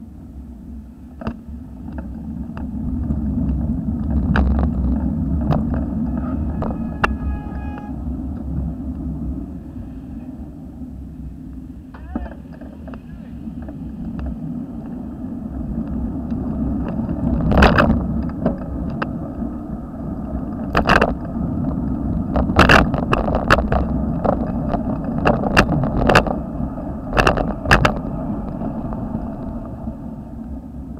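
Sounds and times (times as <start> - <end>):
bicycle riding rumble: 0.0 - 30.9.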